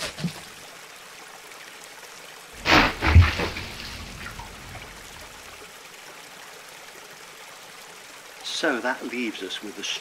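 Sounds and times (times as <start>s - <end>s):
fountain water trickling: 0.3s - 2.6s, 3.2s - 10.0s.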